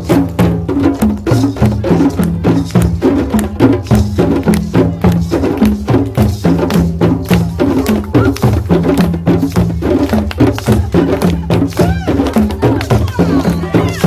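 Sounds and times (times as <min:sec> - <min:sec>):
drum ensemble playing: 0:00.0 - 0:14.0.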